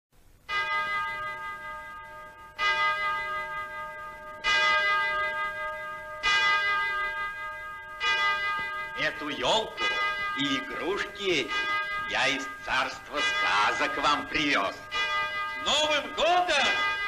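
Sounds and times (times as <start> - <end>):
clock bell striking: 0.5 - 17.0.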